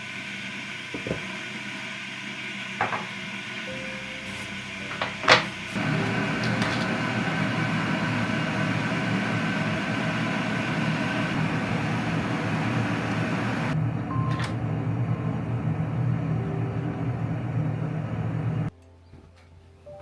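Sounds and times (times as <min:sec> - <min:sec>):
mechanical hum with faint whine: 0:00.0 - 0:18.7.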